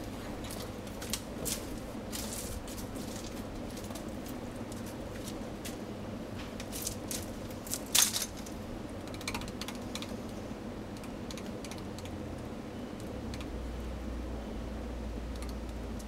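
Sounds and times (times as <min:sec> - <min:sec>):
ceiling fan humming: 0:00.0 - 0:16.0.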